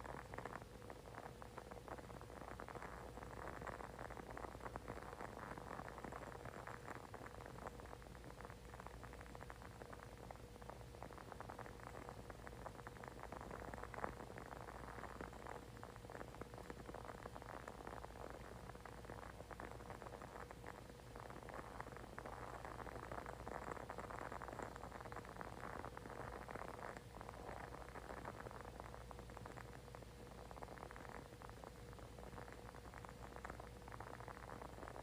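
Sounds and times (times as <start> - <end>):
candle crackling: 0.0 - 35.0
low steady hum: 0.0 - 35.0.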